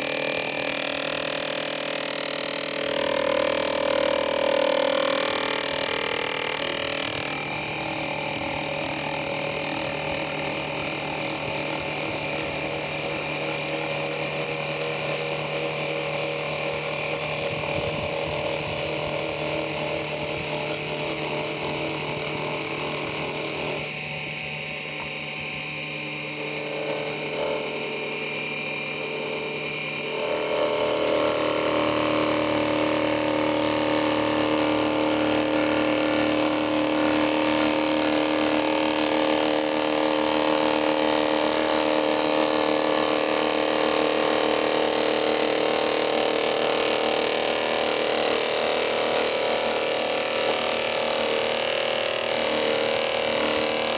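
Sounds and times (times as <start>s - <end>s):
lathe tool cutting wood: 0.0s - 53.9s
metal lathe motor hum and whine: 0.0s - 53.9s.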